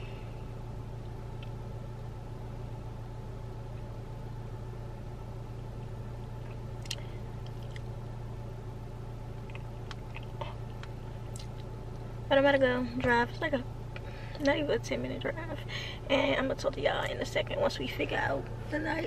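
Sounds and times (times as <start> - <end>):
car engine idling inside cabin: 0.0 - 19.0.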